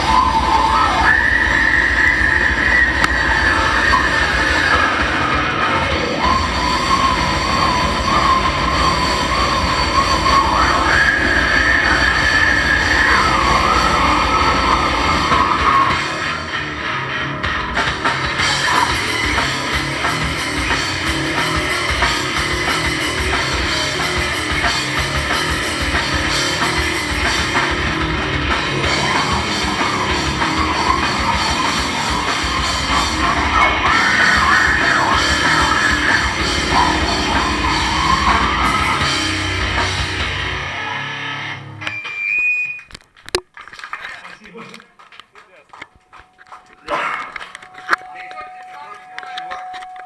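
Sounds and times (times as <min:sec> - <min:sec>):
fast drum kit: 0:00.0 - 0:40.7
bass guitar: 0:00.0 - 0:43.5
electric guitar: 0:00.0 - 0:43.5.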